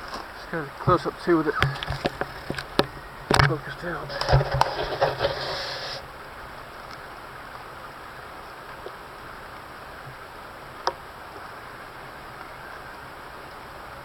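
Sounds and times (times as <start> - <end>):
rainforest ambience hiss: 0.0 - 14.0.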